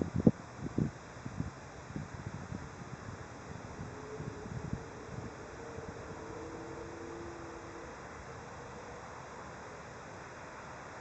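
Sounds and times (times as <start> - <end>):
steady hiss: 0.0 - 11.0
wind buffeting microphone: 0.0 - 11.0.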